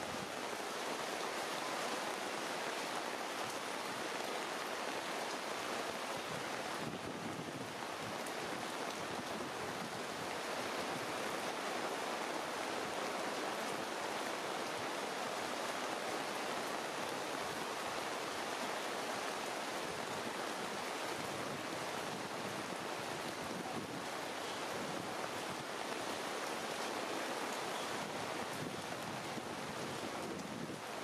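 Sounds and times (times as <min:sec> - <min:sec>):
rain falling on foliage: 0:00.0 - 0:31.0.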